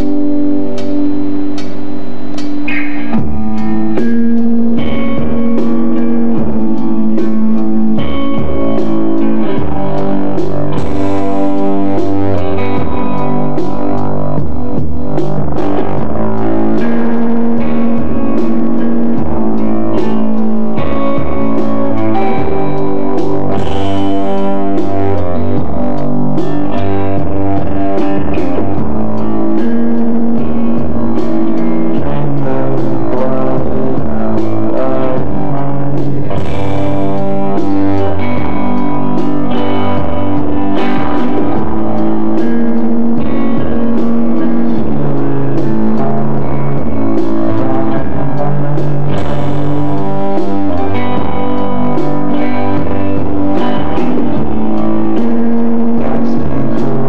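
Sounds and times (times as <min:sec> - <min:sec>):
amplified guitar: 0:00.0 - 0:57.0
drum beat: 0:00.0 - 0:57.0
keyboard chords: 0:00.0 - 0:57.0.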